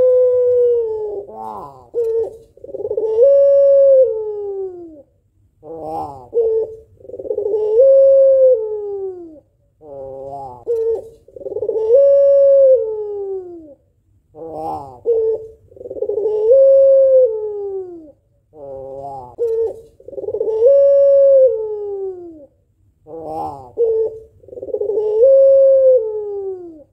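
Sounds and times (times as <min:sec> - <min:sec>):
dove cooing: 0:00.0 - 0:26.9.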